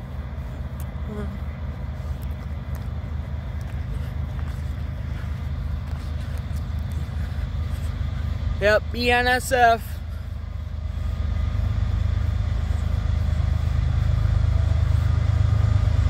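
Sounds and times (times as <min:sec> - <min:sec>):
diesel locomotive engine rumble: 0:00.0 - 0:16.0.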